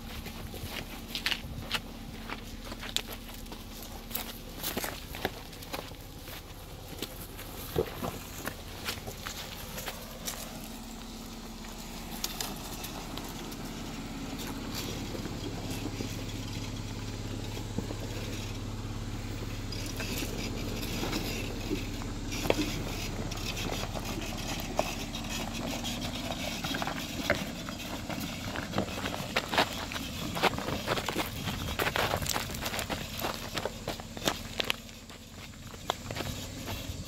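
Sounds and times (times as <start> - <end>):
footsteps on rocky trail: 0.0 - 37.0
truck engine humming: 0.0 - 37.0
tyres crunching on rocks: 0.0 - 37.0.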